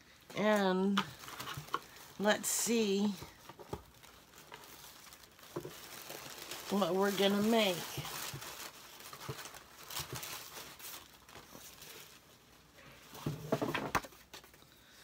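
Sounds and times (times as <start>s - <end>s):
paper and packaging rustling: 0.4s - 14.6s.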